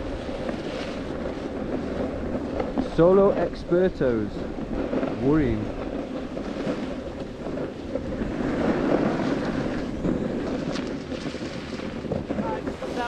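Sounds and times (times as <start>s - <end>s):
board scraping over snow: 0.0s - 13.0s
wind buffeting microphone: 0.0s - 13.0s.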